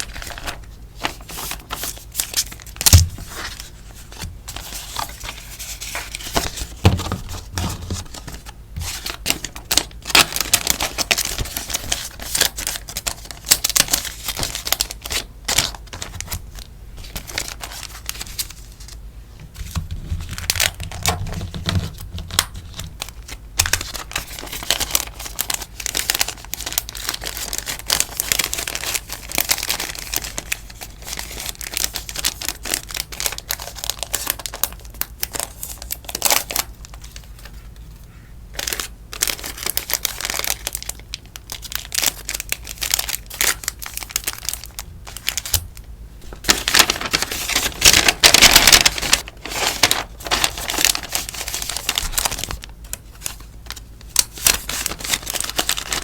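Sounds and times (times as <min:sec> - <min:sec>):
packaging crinkling and rustling: 0:00.0 - 0:37.9, 0:38.5 - 0:56.0.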